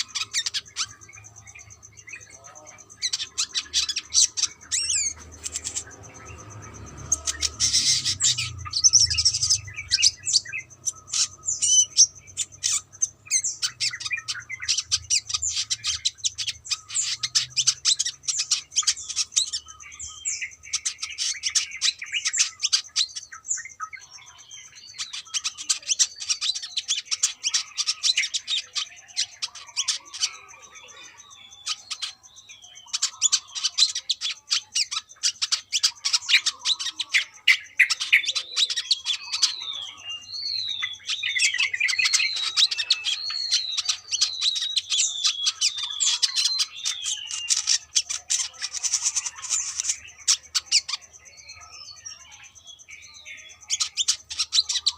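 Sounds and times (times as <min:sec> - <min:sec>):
bird twittering chirps and trills: 0:00.0 - 0:54.9.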